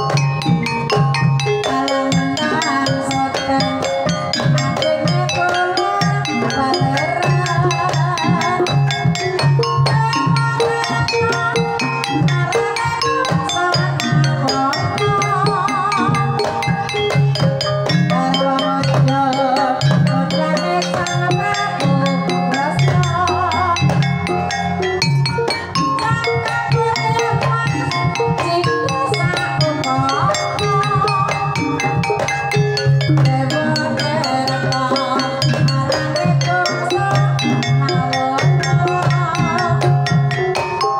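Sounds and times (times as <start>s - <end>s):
wavering melody line: 0.0s - 40.9s.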